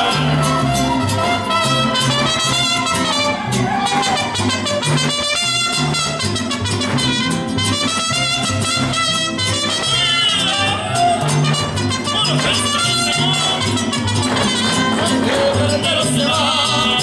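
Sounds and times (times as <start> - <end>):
mariachi music with trumpets: 0.0 - 17.0.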